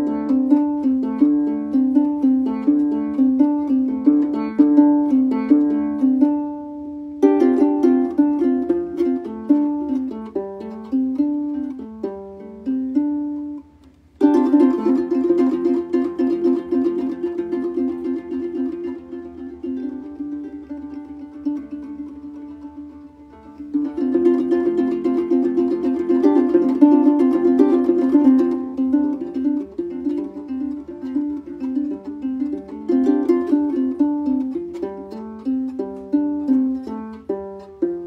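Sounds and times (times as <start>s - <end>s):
plucked harp melody: 0.0s - 38.0s.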